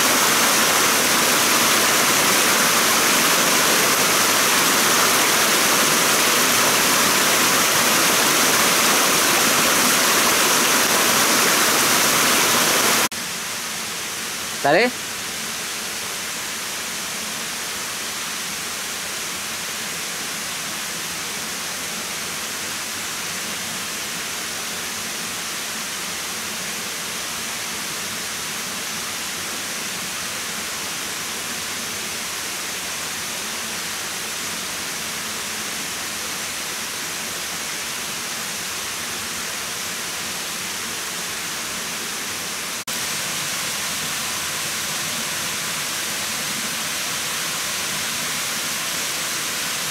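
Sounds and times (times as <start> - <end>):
outdoor ambient hiss: 0.0 - 49.9.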